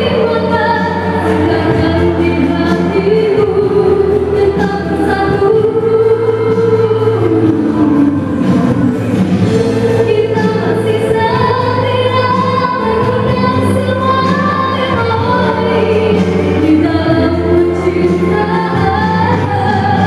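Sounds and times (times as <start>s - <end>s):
instrumental accompaniment: 0.0s - 20.0s
woman singing into a microphone: 0.0s - 20.0s.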